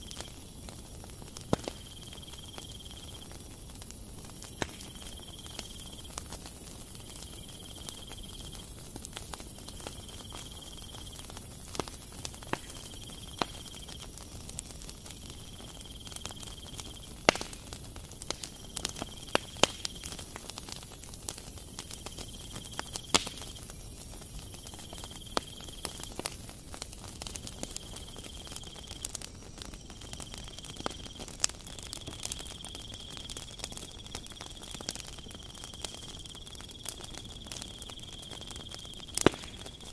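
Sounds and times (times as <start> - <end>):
dough crackling and sizzling: 0.0 - 39.9.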